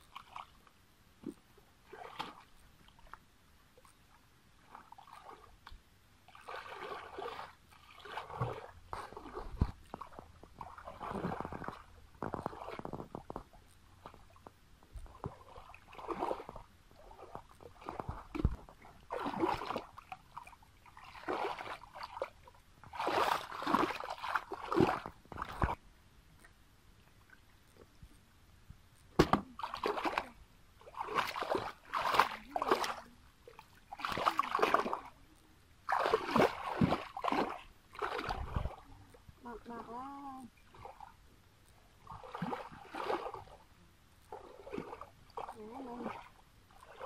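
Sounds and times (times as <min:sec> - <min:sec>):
muddy water splashing: 0:00.0 - 0:00.6, 0:01.2 - 0:03.1, 0:06.3 - 0:25.8, 0:29.1 - 0:35.2, 0:35.8 - 0:41.2, 0:42.0 - 0:43.7, 0:44.3 - 0:47.0.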